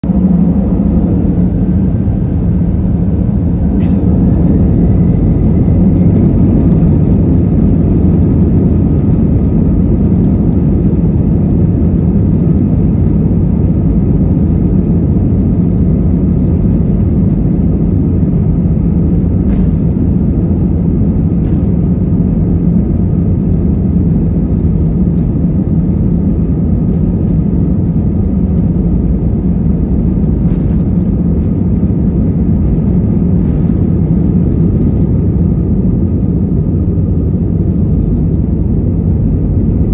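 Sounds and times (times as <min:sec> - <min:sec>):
aircraft rolling on runway: 0:00.0 - 0:39.9
faint whine: 0:00.0 - 0:39.9
jet engines rumbling: 0:00.0 - 0:39.9.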